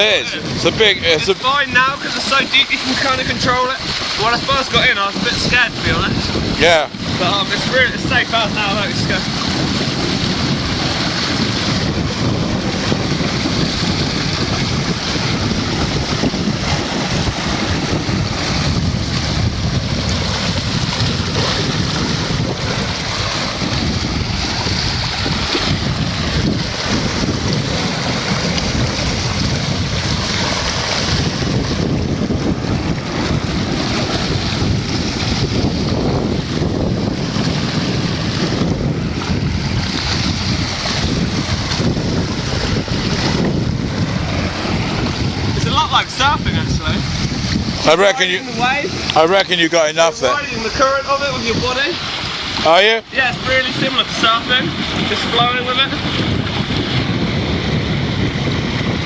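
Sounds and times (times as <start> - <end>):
churning water rushing: 0.0 - 59.0
wind buffeting microphone: 0.0 - 59.0.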